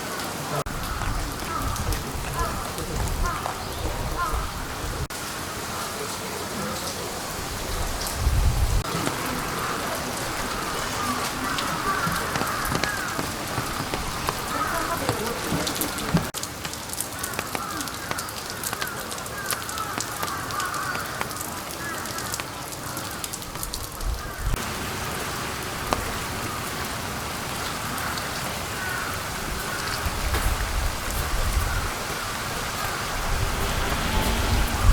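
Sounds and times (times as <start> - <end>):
raindrops pattering on surfaces: 0.0 - 34.9
steady rain falling: 0.0 - 34.9.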